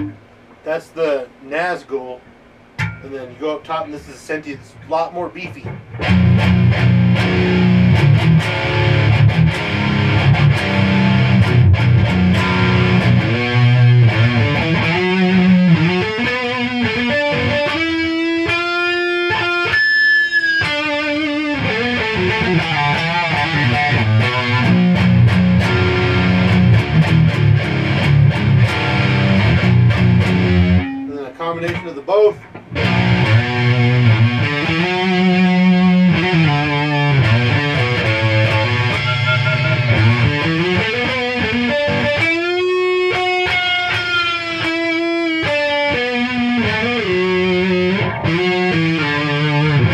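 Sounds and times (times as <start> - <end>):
electric guitar lead lines: 2.7 - 49.9
electric guitar chugging riffs: 2.8 - 3.9, 4.8 - 49.9.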